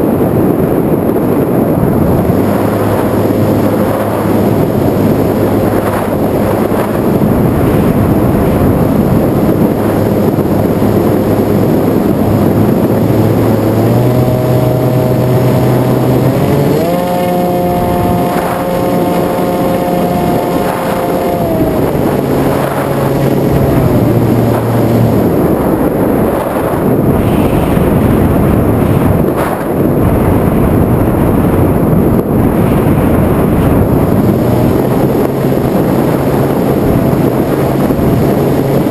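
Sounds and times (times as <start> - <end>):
drone motor and propellers: 0.0 - 38.9
wind rush on microphone: 0.0 - 38.9.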